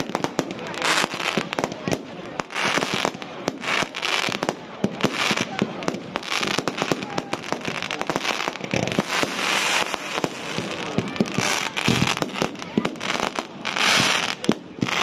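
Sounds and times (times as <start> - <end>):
crackling hiss: 0.0 - 15.0
firework bangs: 0.0 - 15.0.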